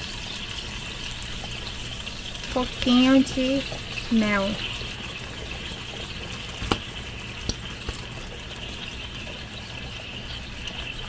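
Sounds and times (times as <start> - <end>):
glaze simmering in frying pan: 0.0 - 11.0.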